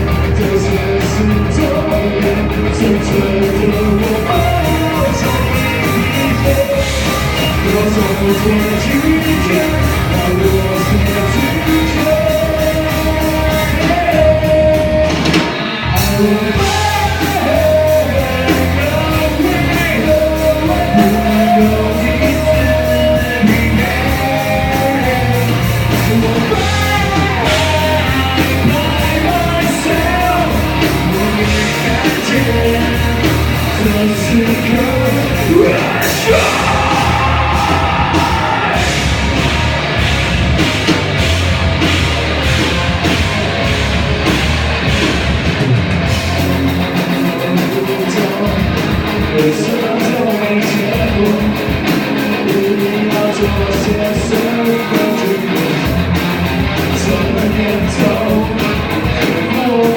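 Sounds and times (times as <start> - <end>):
person singing: 0.0 - 39.5, 46.7 - 56.0, 56.8 - 59.9
amplified electric guitar: 0.0 - 59.9
bass guitar: 0.0 - 59.9
drums: 0.0 - 59.9.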